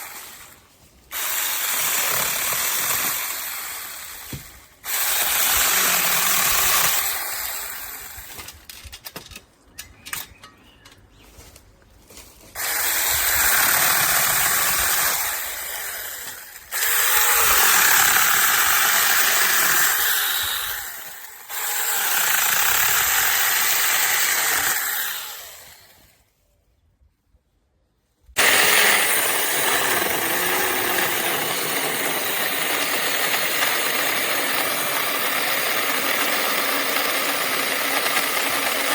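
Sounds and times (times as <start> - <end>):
mini chainsaw running: 0.0 - 8.4, 12.6 - 25.9, 28.4 - 38.9.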